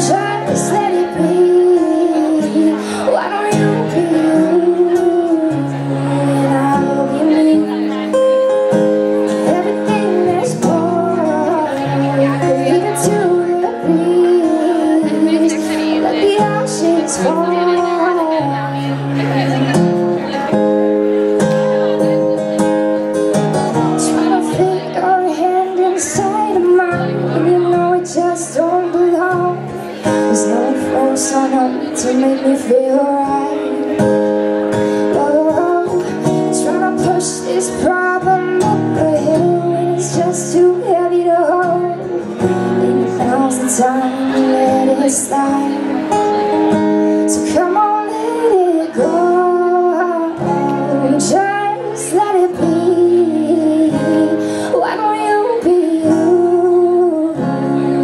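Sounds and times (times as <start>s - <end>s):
woman singing: 0.0s - 20.6s, 23.9s - 58.0s
acoustic guitar: 0.0s - 58.0s.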